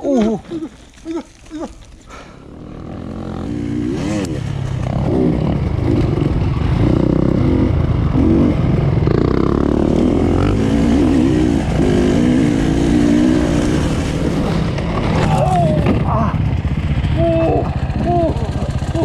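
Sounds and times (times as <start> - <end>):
dirt bike engine revving: 1.8 - 19.0.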